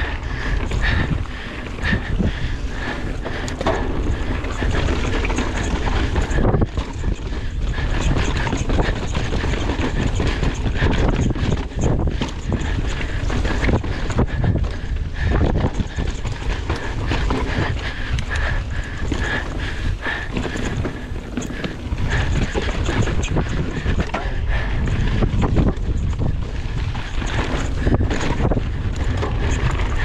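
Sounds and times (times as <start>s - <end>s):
bike rattling over bumps: 0.0s - 30.0s
bike tyres on dirt: 0.0s - 30.0s.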